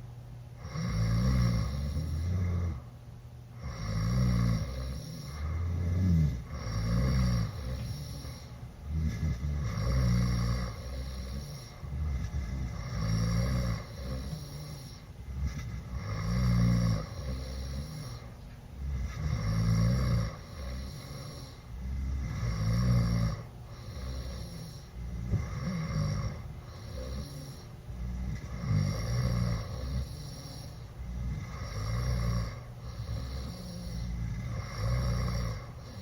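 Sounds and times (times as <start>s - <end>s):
person snoring loudly: 0.6s - 2.8s, 3.6s - 36.0s.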